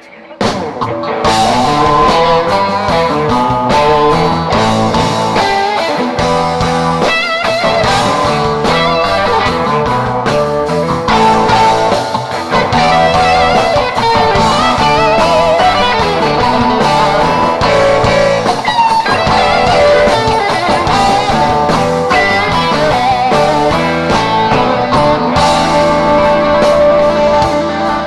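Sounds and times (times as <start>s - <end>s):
drums: 0.0s - 28.0s
electric guitar lead: 0.0s - 28.0s
bass: 0.4s - 28.0s.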